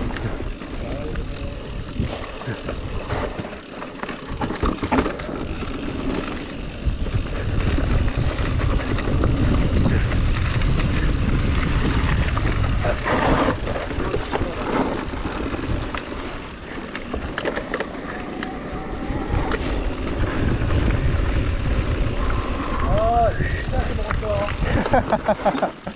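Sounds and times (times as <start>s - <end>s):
bike rattling and knocking: 0.0s - 25.9s
tyres rumbling over dirt: 0.0s - 25.9s
wind rushing over microphone: 0.0s - 25.9s.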